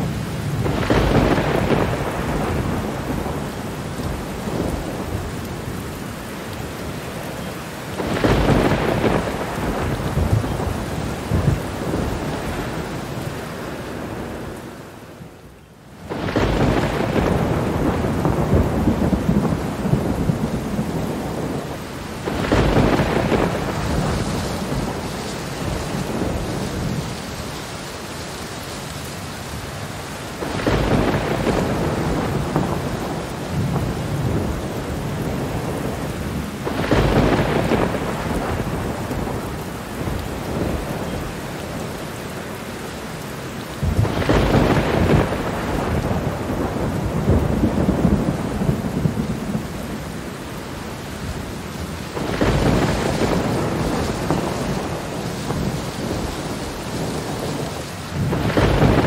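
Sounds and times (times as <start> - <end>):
rolling thunder: 0.0 - 6.0, 7.4 - 14.8, 16.0 - 27.4, 30.3 - 41.8, 43.7 - 50.3, 51.2 - 59.0
steady rain: 0.0 - 59.0.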